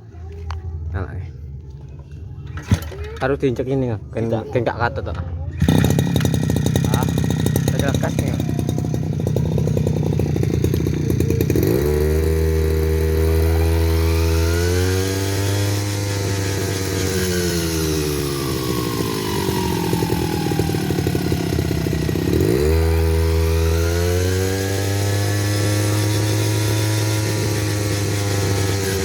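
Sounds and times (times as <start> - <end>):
brush cutter engine revving: 5.1 - 29.0.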